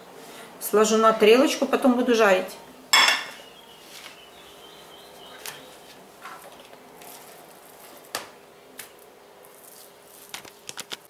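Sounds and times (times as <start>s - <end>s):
faint hum: 0.0s - 10.1s.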